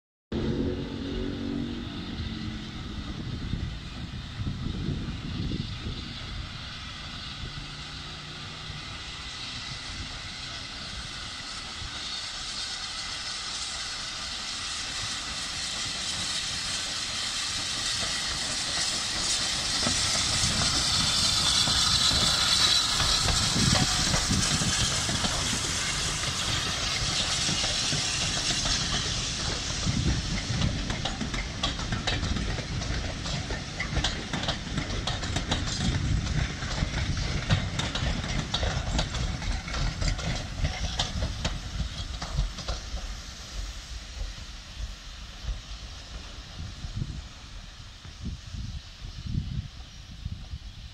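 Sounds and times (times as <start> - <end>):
steam locomotive hissing: 0.4 - 50.9
train wheels clicking over rail joints: 3.0 - 50.6.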